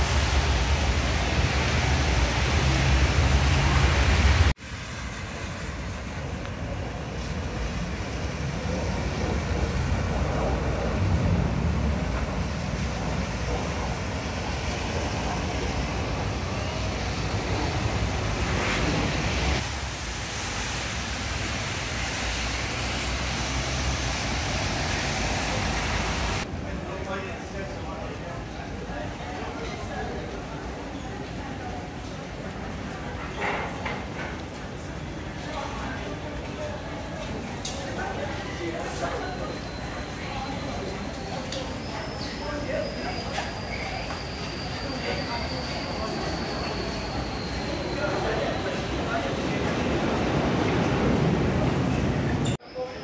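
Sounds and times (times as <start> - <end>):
traffic passing on wet road: 0.0 - 52.6.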